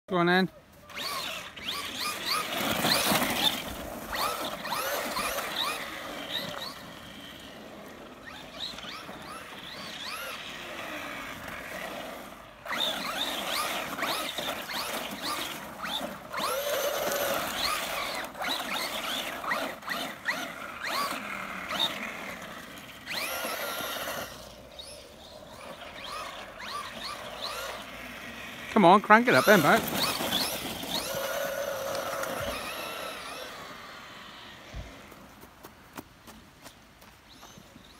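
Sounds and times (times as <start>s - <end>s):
tyres sliding on snow and ice: 0.7s - 35.9s
electric motor whining: 0.9s - 35.3s.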